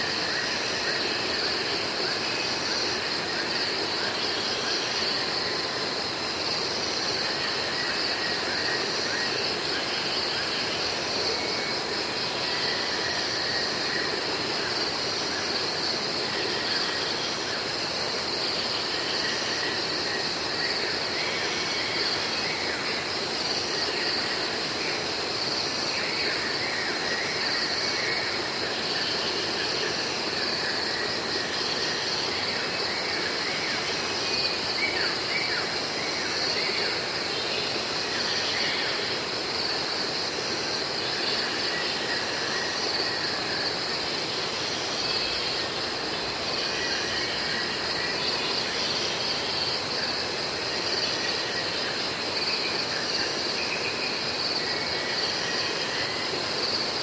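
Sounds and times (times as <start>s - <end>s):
cicada drone: 0.0s - 57.0s.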